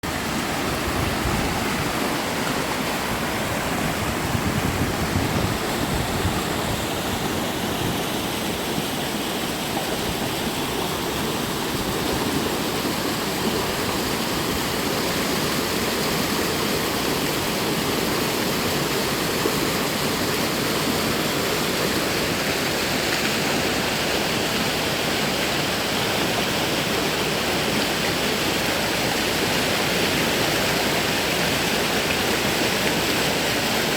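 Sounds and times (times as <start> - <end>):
stream rushing: 0.0 - 33.9.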